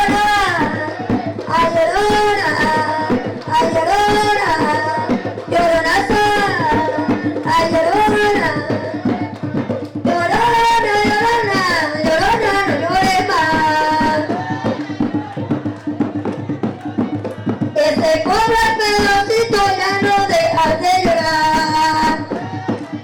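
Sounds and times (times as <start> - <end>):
hand drums: 0.0 - 23.0
women singing: 0.0 - 23.0.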